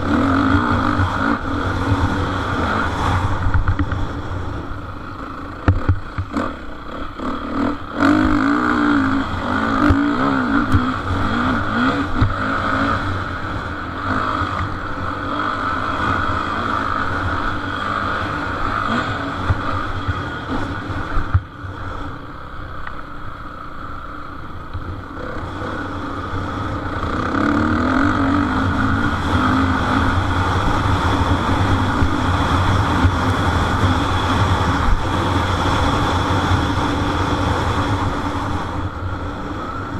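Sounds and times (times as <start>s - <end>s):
motocross motorcycles revving: 0.0s - 39.9s.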